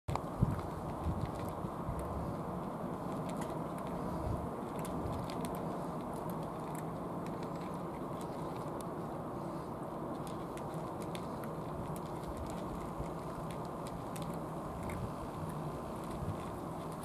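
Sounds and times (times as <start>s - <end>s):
cats chewing and licking: 0.1s - 17.0s
low rushing background noise: 0.1s - 17.0s.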